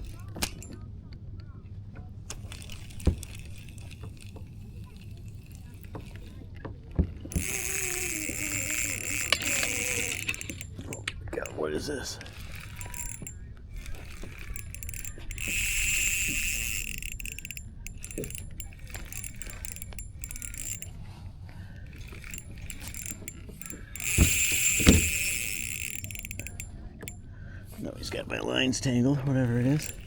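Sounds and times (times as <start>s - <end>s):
fishing reel drag whirring: 0.0s - 0.8s, 2.1s - 30.0s.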